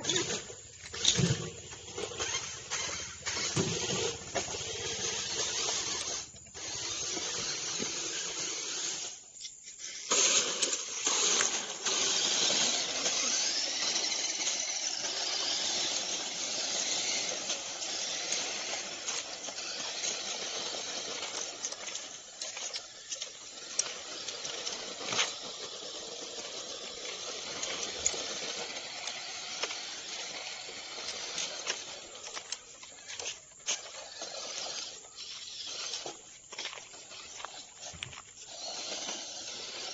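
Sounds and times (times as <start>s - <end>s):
model truck motors whirring: 0.0s - 39.9s
motor whines: 0.0s - 39.9s.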